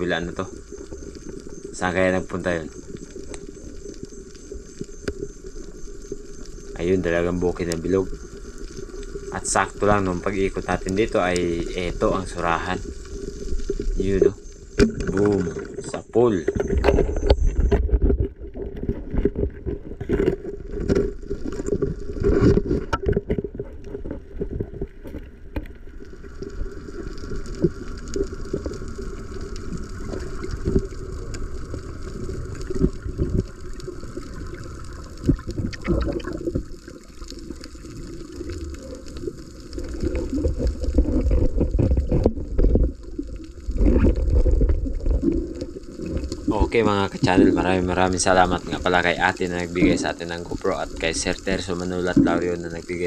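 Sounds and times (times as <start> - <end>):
steady hiss: 0.0 - 16.4, 26.1 - 53.0
underwater gurgling and sloshing water: 0.0 - 53.0.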